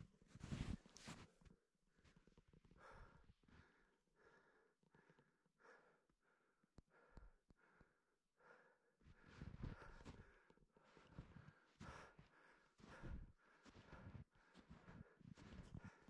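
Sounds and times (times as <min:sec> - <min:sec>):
person breathing quickly: 0:02.8 - 0:16.0.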